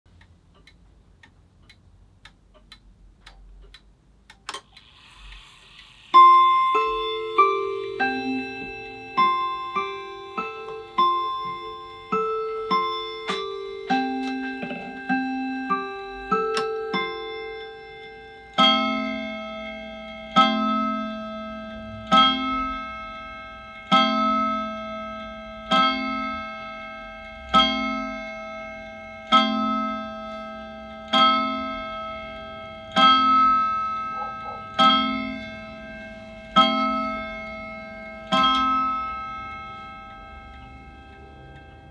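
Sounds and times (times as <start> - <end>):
clock gong striking: 6.0 - 41.9.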